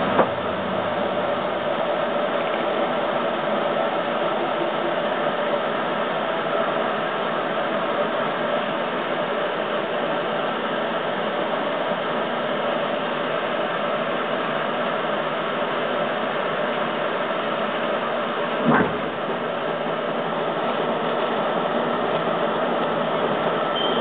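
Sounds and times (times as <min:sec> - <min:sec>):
electric train interior rumble: 0:00.0 - 0:24.0.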